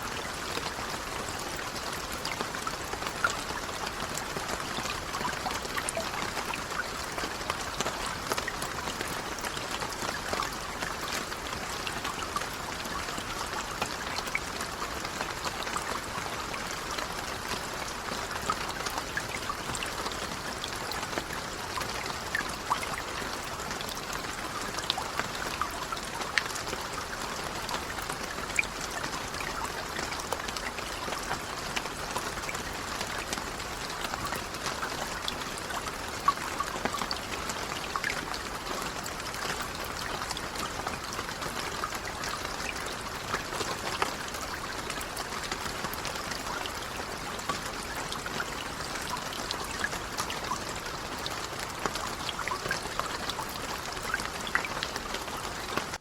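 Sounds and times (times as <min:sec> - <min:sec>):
light rain hiss: 0:00.0 - 0:56.0.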